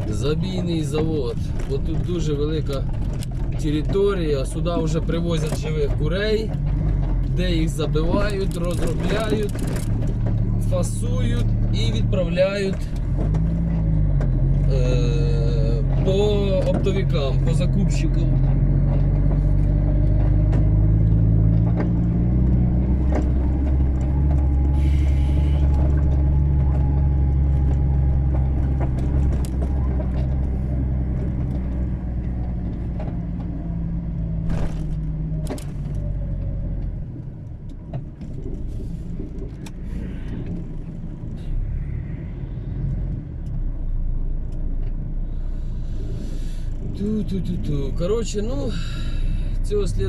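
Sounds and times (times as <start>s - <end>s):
diesel truck engine droning: 0.0s - 50.0s.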